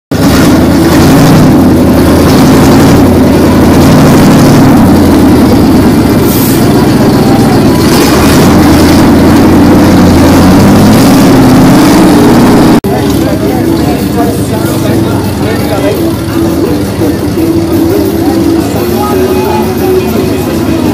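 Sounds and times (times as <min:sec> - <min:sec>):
truck engine running at low revs: 0:00.1 - 0:20.9.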